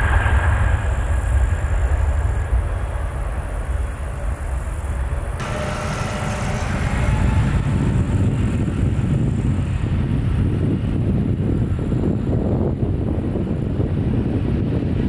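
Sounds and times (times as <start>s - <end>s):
faint engine whine: 0.0s - 15.0s
jet engines rumbling: 0.0s - 15.0s.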